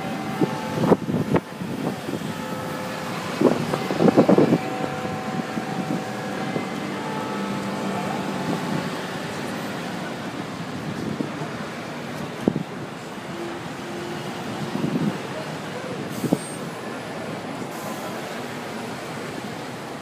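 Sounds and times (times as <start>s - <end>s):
passers-by voices: 0.0s - 20.0s
street traffic: 0.0s - 20.0s.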